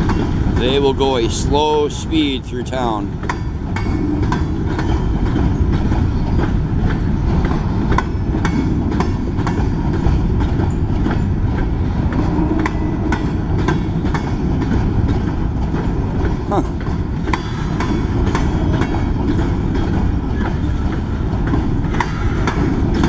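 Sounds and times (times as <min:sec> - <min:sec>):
train wheels rumbling on rail: 0:00.0 - 0:23.0
wheels clacking over rail joints: 0:00.0 - 0:23.0.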